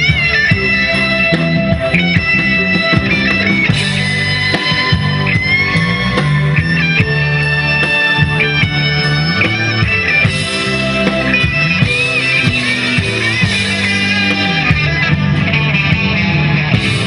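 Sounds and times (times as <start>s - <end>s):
bass: 0.0s - 17.0s
guitar: 0.0s - 17.0s
high wavering lead melody: 0.0s - 17.0s
steady drum beat: 0.0s - 17.0s.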